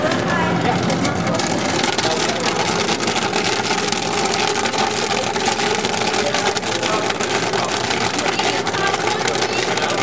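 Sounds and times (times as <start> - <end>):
machine humming: 0.0 - 10.0
popcorn popping: 0.0 - 10.0.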